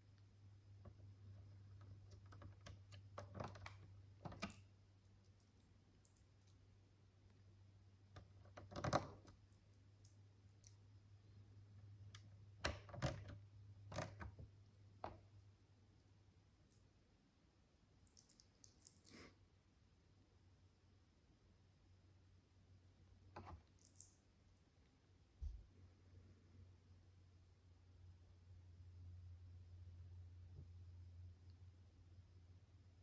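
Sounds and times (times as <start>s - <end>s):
faint steady low hum: 0.0s - 33.0s.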